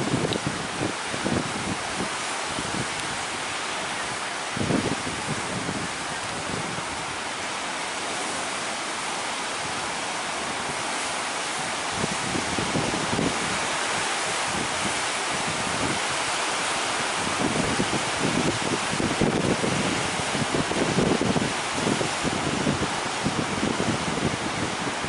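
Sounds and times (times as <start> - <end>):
sea surf breaking: 0.0 - 25.0
wind buffeting microphone: 0.0 - 25.0.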